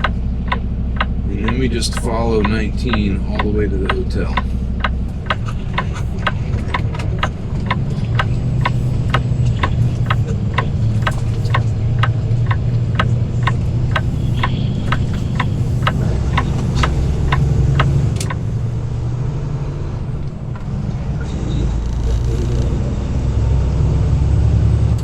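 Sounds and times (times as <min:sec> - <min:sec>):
turn signal clicking: 0:00.0 - 0:23.3
diesel truck engine hum: 0:00.0 - 0:25.0.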